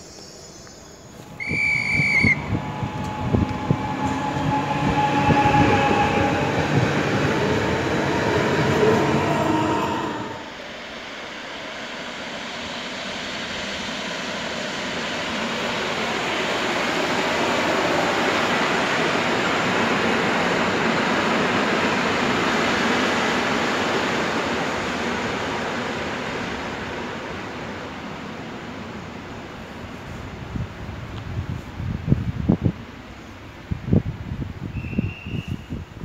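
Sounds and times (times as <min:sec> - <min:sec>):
train passing wheel noise: 0:00.0 - 0:34.4.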